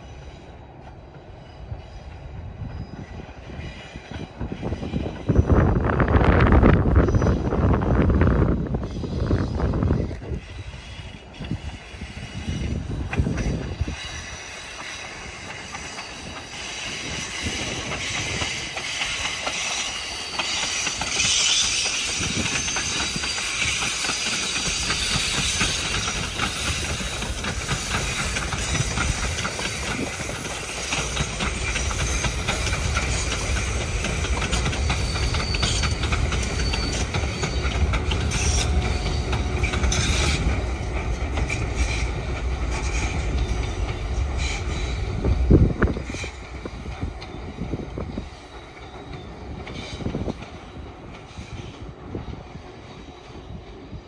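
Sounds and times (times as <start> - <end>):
diesel locomotive rumble: 0.0 - 54.0
train coaches rattling on rails: 0.0 - 54.0.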